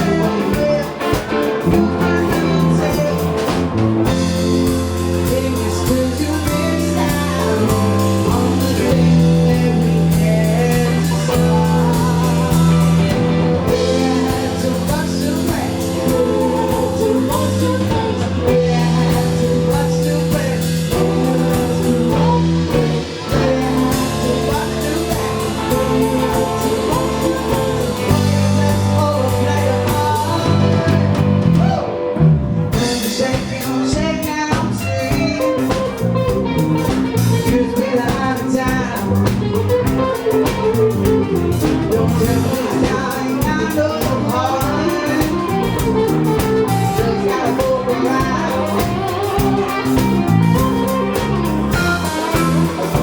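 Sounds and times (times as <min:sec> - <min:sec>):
live blues band playing: 0:00.0 - 0:53.0
person singing: 0:00.0 - 0:53.0.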